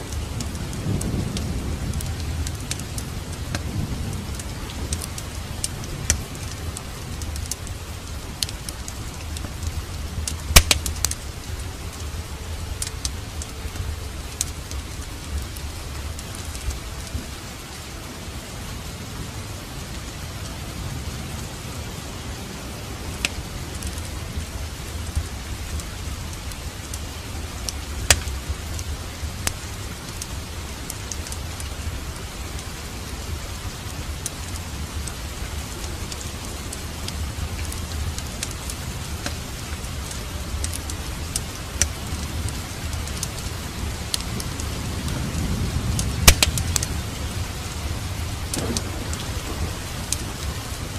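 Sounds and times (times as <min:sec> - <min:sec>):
wood fire crackling and popping: 0:00.0 - 0:18.2, 0:22.8 - 0:50.9
low rumble: 0:00.0 - 0:50.9
steady rain: 0:00.0 - 0:50.9.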